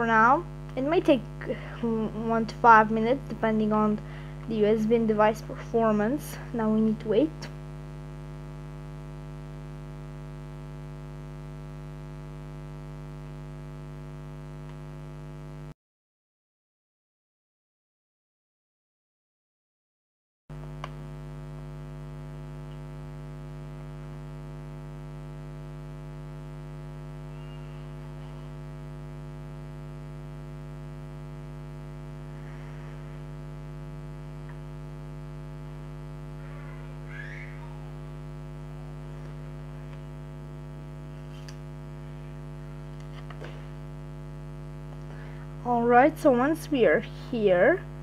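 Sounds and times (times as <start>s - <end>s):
electrical mains hum: 0.0s - 15.8s, 20.5s - 48.0s.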